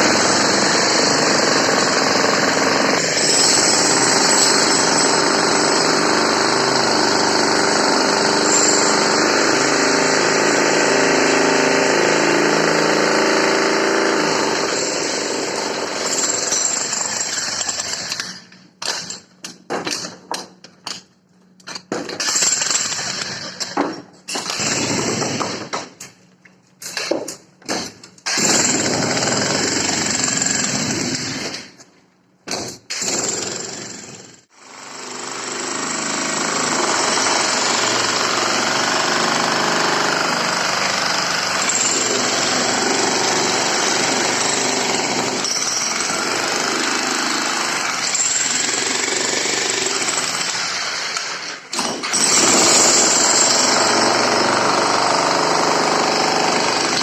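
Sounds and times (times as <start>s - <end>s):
jackhammer hammering: 0.0s - 21.0s, 21.7s - 26.0s, 27.0s - 31.7s, 32.5s - 57.0s.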